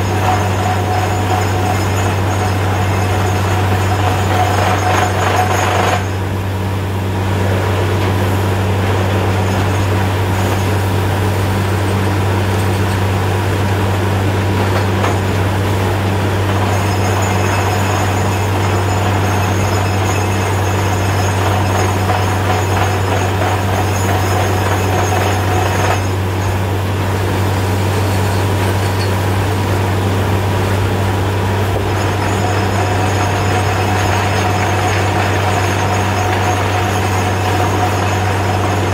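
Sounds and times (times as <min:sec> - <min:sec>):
drilling rig engine drone: 0:00.0 - 0:38.9.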